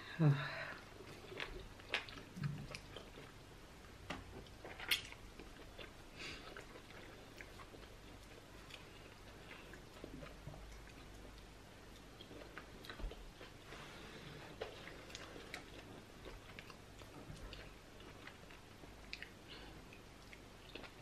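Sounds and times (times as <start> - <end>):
soft chewing: 0.7 - 21.0.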